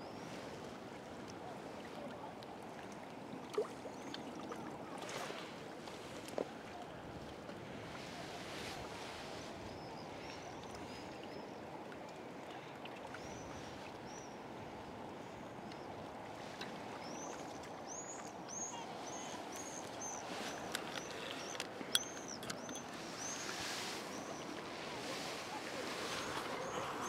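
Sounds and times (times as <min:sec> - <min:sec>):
water lapping: 0:00.3 - 0:27.0.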